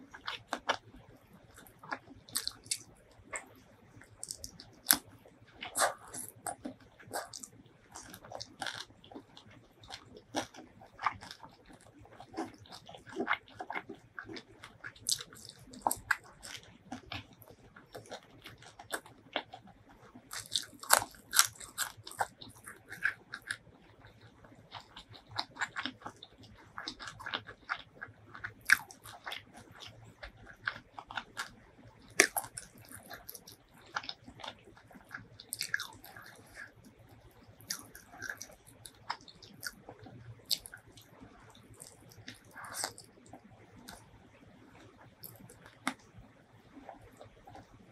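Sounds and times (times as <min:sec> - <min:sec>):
wet chewing: 0:00.0 - 0:00.8, 0:01.5 - 0:46.1
crunching bites of fried chicken: 0:01.5 - 0:44.1.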